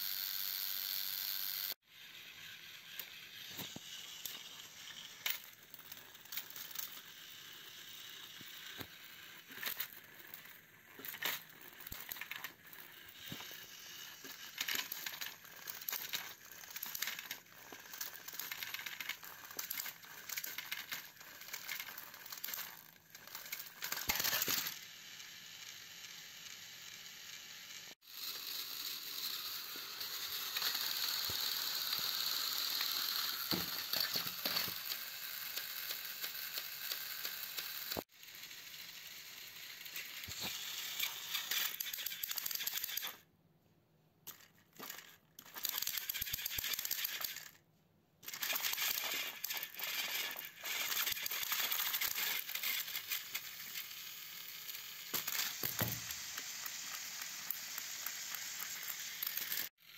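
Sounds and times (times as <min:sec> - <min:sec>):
toy train motor whirring: 0:00.0 - 0:43.3, 0:44.2 - 0:47.6, 0:48.2 - 0:59.9
toy train wheels clicking: 0:00.0 - 0:43.3, 0:44.2 - 0:47.6, 0:48.2 - 0:59.9.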